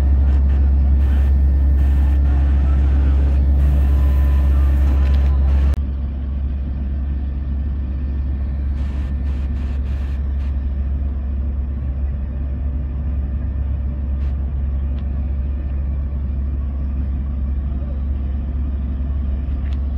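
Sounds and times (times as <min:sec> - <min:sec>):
vehicle engines idling: 0:00.0 - 0:19.9.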